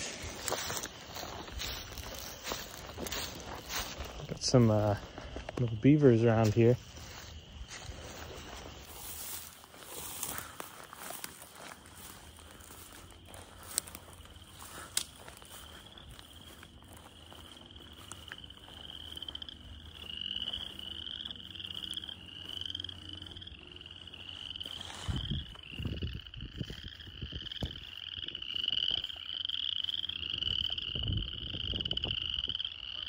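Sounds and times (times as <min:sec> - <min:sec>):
frogs calling: 0:00.0 - 0:33.0.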